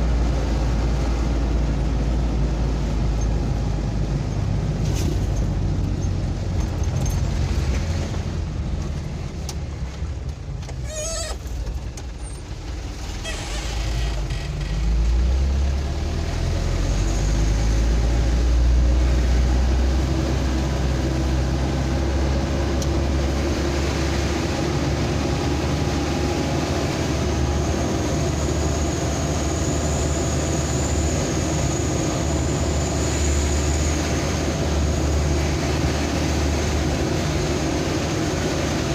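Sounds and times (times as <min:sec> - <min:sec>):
road noise: 0:00.0 - 0:38.9
vehicle engine drone: 0:00.0 - 0:38.9.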